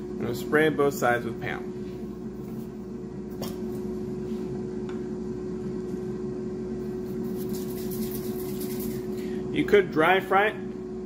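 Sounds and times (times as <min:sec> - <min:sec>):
air fryer fan humming: 0:00.0 - 0:11.0.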